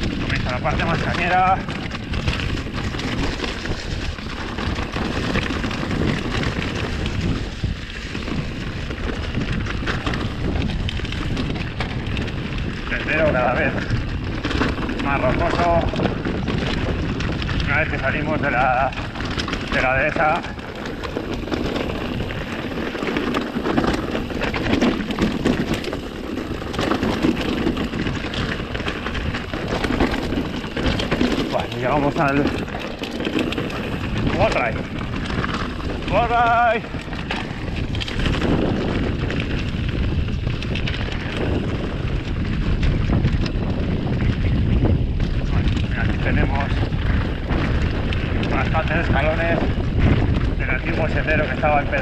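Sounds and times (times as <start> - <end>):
bike clattering and knocking: 0.0 - 52.0
tyre and wind rushing: 0.0 - 52.0.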